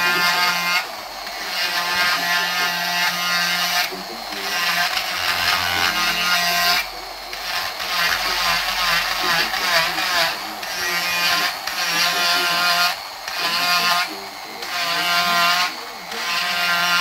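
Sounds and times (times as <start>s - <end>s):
power carving tool whining on wood: 0.0s - 17.0s.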